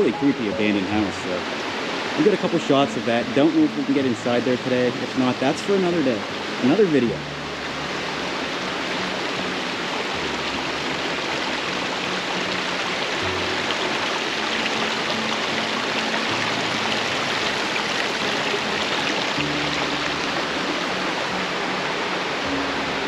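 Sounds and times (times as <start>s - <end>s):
soft background music: 0.0s - 23.0s
waterfall rushing: 0.0s - 23.0s.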